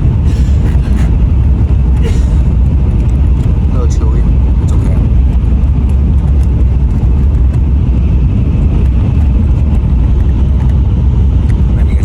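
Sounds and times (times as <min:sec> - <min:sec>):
train interior low rumble: 0:00.0 - 0:12.0.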